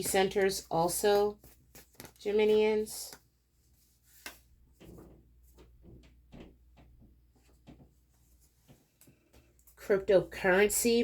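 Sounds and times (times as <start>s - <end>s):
soft rustles: 0.0s - 9.8s.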